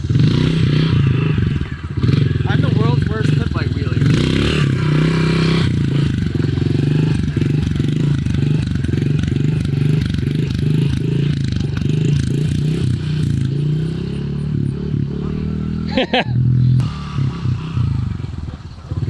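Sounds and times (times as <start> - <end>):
pit bike engine pulsing: 0.0 - 19.0.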